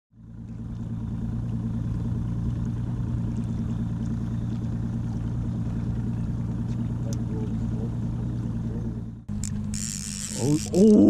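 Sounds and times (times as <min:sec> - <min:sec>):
outboard motor humming: 0:00.1 - 0:11.0.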